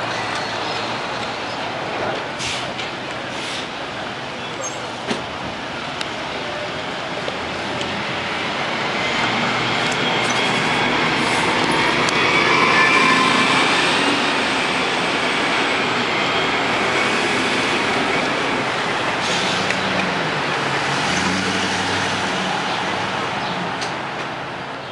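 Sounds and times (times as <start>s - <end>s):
city bus accelerating: 0.0s - 24.9s
street traffic: 0.0s - 24.9s.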